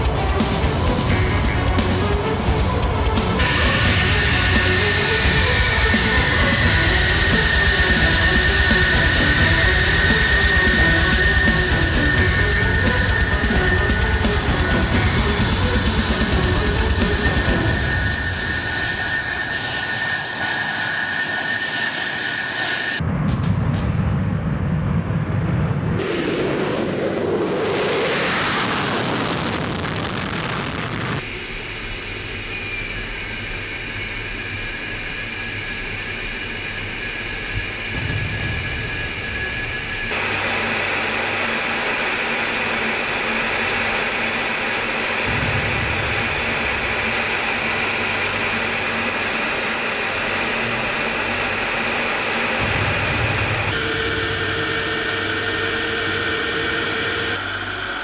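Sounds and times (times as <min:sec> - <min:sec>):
cockpit engine hum with whine: 0:00.0 - 0:23.0, 0:27.3 - 0:58.0
jet engines on takeoff run: 0:00.0 - 0:58.0.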